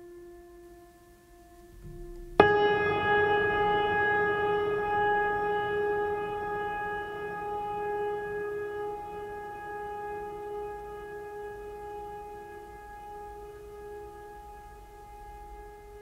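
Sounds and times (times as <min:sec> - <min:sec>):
soft sustained tone: 0:00.0 - 0:16.0.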